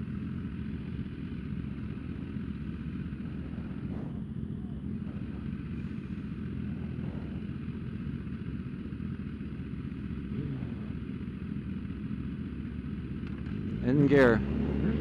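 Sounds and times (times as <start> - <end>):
motorcycle engine idling: 0.0 - 15.0
other race bikes running: 0.0 - 15.0.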